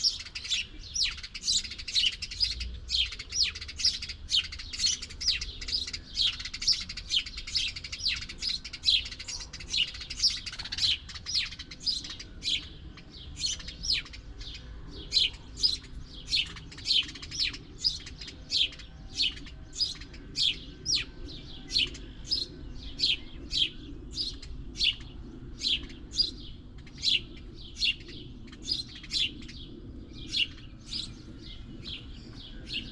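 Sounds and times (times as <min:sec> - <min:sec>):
songbird chirping: 0:00.0 - 0:32.9.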